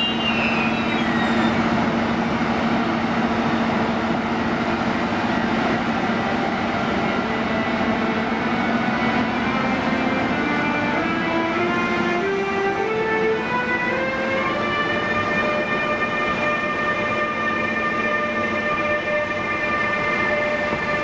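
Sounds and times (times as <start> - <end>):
electric locomotive hum: 0.0 - 21.0
train rolling noise: 0.0 - 21.0.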